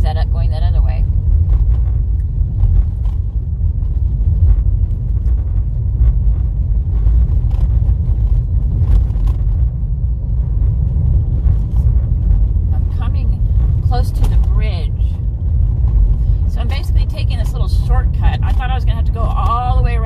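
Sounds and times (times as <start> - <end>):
car road rumble on dirt: 0.0 - 20.0.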